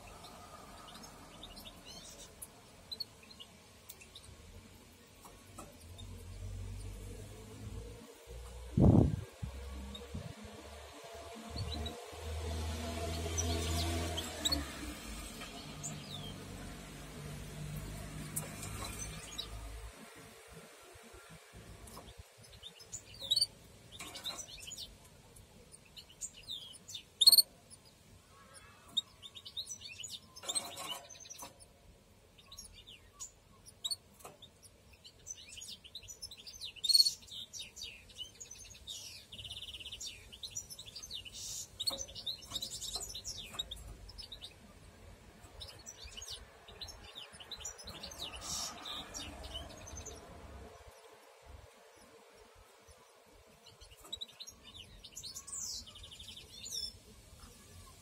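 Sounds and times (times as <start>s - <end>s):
canaries chirping: 0.0s - 58.0s.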